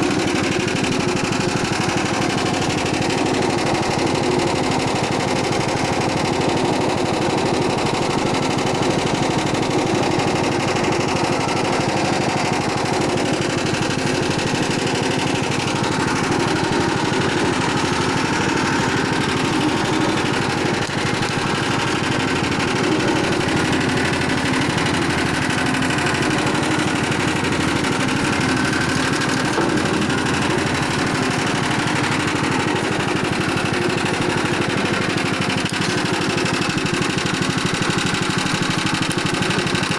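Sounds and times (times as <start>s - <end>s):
pressing machine motor droning: 0.0s - 39.9s.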